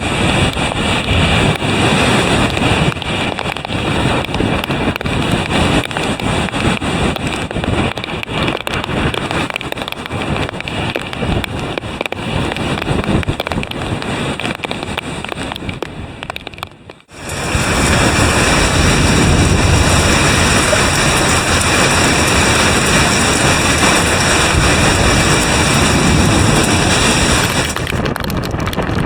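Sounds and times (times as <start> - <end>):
crashing surf: 0.0 - 15.6, 17.1 - 28.1
rain: 0.0 - 29.0
wind gusting on microphone: 0.0 - 29.0.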